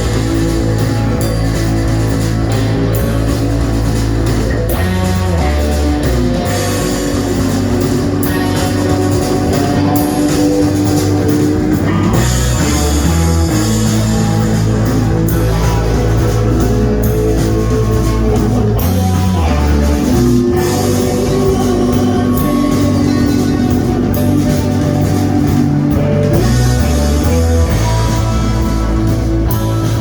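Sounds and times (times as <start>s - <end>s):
held bass notes: 0.0s - 30.0s
rock band playing live: 0.0s - 30.0s.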